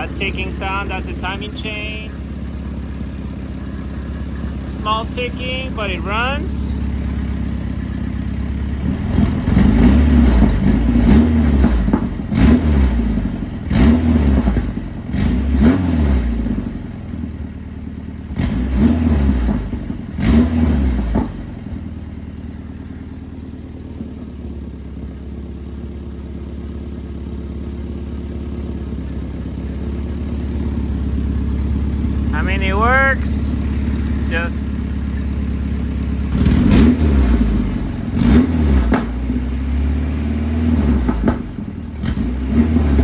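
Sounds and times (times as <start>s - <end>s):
car engine revving and idling: 0.0s - 43.0s
engine ticking: 0.0s - 43.0s.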